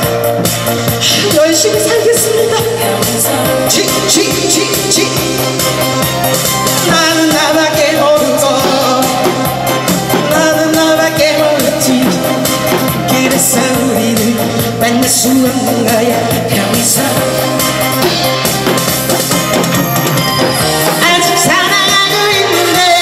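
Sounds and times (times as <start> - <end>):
amplified backing track with beat: 0.0 - 23.0
woman singing into a microphone: 1.0 - 6.2, 6.8 - 18.3, 20.6 - 23.0.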